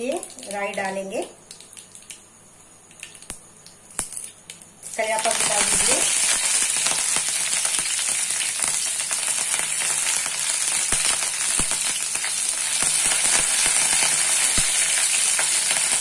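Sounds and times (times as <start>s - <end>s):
leaves and seeds sizzling in oil: 0.0s - 16.0s.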